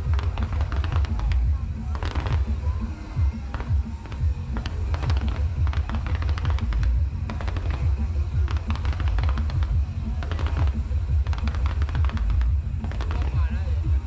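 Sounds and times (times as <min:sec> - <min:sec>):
fireworks crackling volleys: 0:00.0 - 0:14.0
music with pulsing bass: 0:00.0 - 0:14.0.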